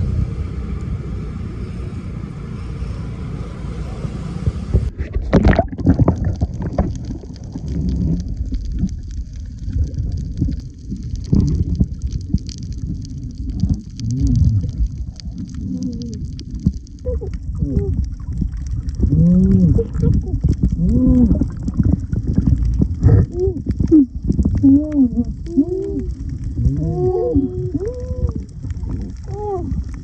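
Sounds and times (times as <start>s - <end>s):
underwater water rushing: 3.7s - 30.0s
bubbling gurgles: 4.9s - 30.0s.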